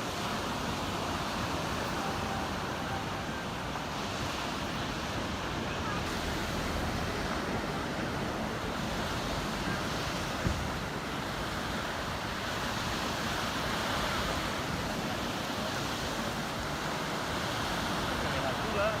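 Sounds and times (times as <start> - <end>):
sea waves breaking on shore: 0.0 - 19.0.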